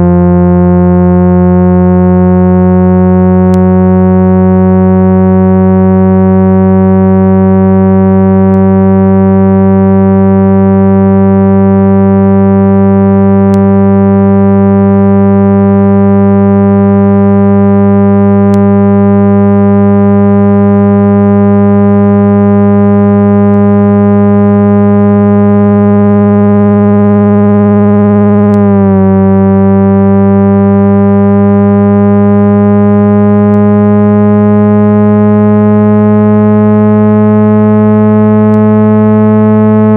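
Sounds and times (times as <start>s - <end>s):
low synthesized hum tone: 0.0s - 39.9s.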